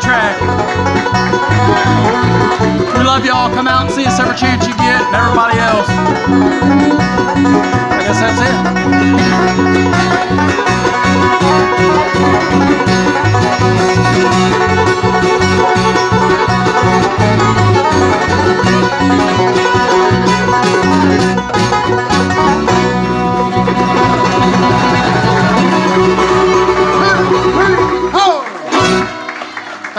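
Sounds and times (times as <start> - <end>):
banjo picking rolls: 0.0 - 29.9
bluegrass band playing: 0.0 - 29.9.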